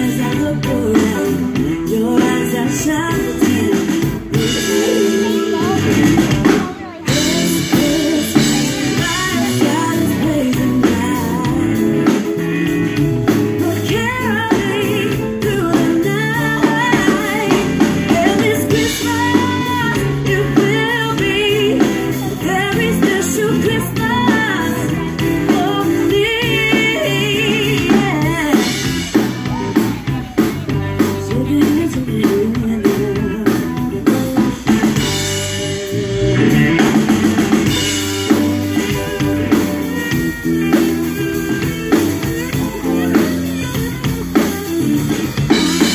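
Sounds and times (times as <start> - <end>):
lead voice singing: 0.0 - 45.9
live rock band playing: 0.0 - 45.9.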